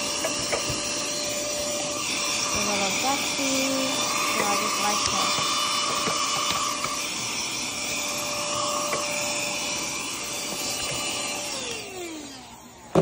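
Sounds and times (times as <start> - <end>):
handheld vacuum cleaner running: 0.0 - 13.0.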